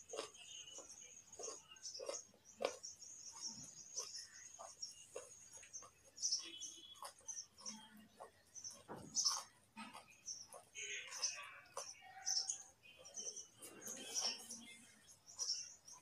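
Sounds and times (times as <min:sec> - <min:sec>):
carrot crunching while chewing: 0:00.0 - 0:16.0.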